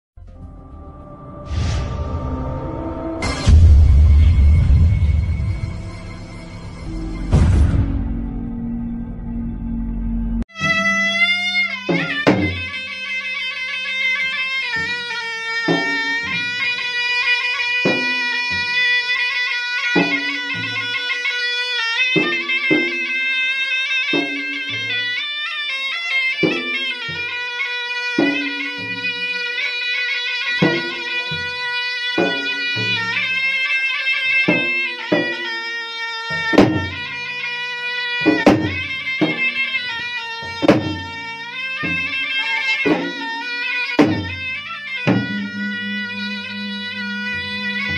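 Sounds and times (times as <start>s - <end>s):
reedy shawm melody: 0.2s - 47.9s
double-headed drums beating: 3.2s - 8.5s, 10.5s - 47.9s.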